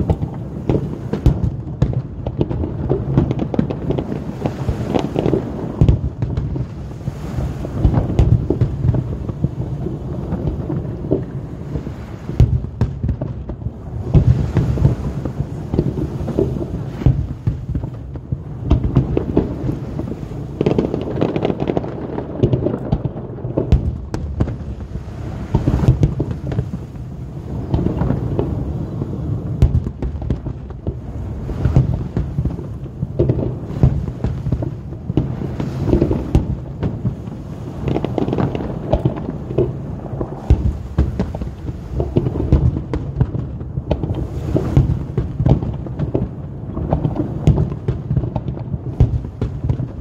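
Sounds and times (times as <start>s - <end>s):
firework booms: 0.0s - 50.0s
firework crackles: 0.0s - 50.0s.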